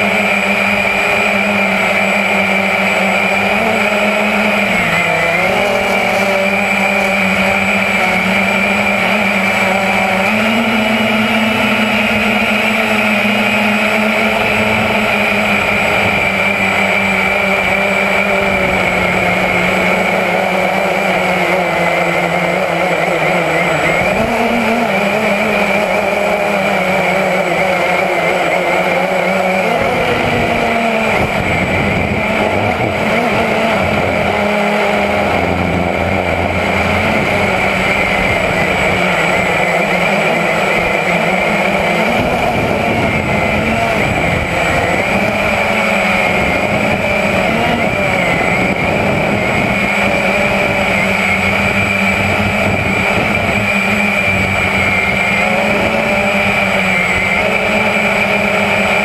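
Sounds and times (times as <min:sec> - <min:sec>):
quadcopter motors buzzing: 0:00.0 - 0:59.0.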